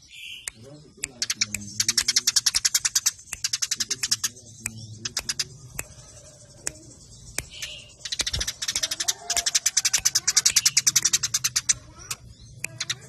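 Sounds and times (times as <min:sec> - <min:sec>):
sparrows chirping rapidly: 0:00.0 - 0:13.0.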